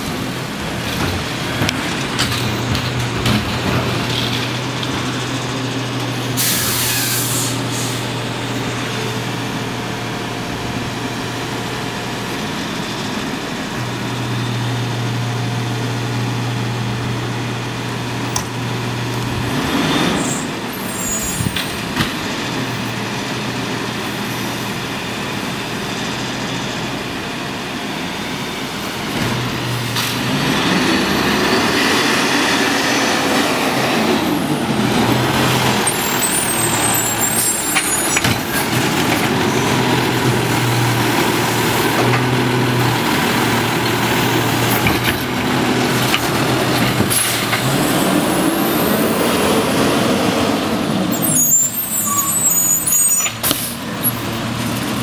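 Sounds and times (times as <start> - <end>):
diesel engine idling and revving: 0.0 - 55.0.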